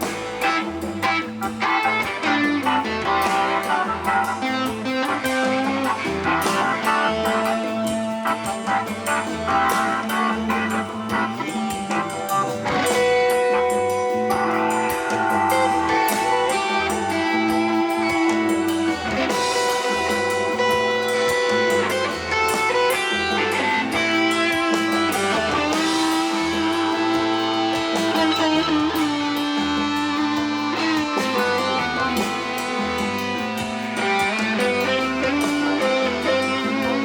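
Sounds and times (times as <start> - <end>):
bass line: 0.0 - 37.0
drums: 0.0 - 37.0
electric guitar: 0.0 - 37.0
held keyboard notes: 0.0 - 37.0.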